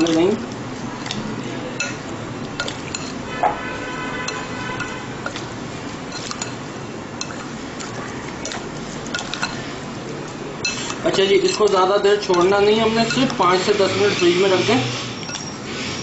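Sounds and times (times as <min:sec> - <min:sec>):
hand mixing fish in marinade: 0:00.0 - 0:16.0.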